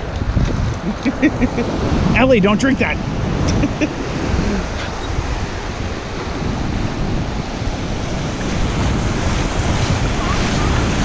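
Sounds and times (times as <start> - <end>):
ocean surf washing up beach: 0.0 - 11.0
wind buffeting microphone: 0.0 - 11.0.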